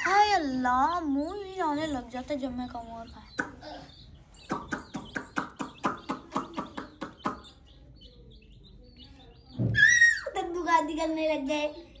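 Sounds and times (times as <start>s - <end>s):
faint high chirps: 0.0s - 11.0s.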